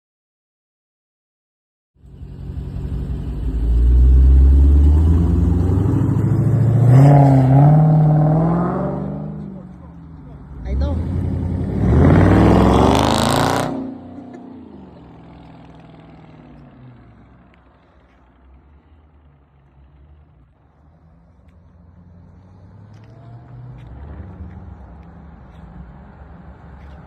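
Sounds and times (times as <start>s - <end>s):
car engine revving and idling: 2.0s - 27.0s.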